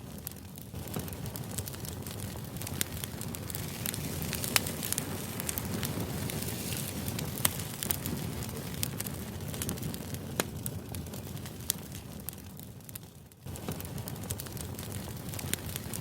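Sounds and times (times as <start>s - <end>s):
crackles and pops: 0.0s - 16.0s.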